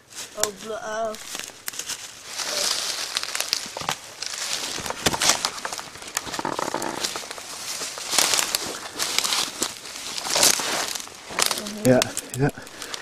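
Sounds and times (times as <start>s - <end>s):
brush and clothing rustling: 0.0s - 11.9s
footsteps crunching dry leaves: 0.0s - 13.0s.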